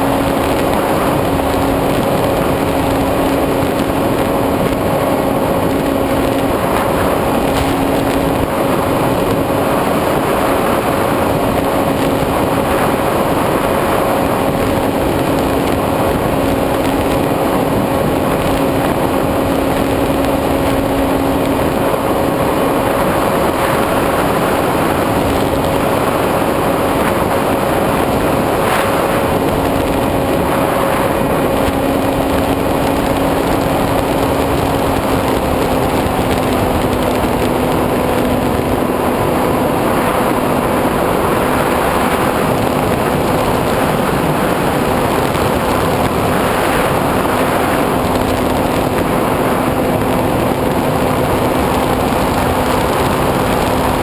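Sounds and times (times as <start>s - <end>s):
wind rushing: 0.0s - 54.0s.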